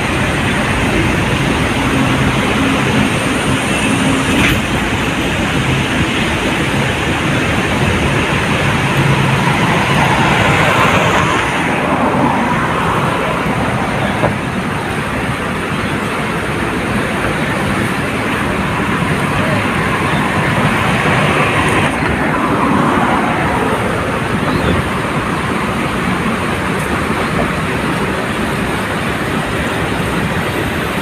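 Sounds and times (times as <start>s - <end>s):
loud steady roar: 0.0s - 31.0s.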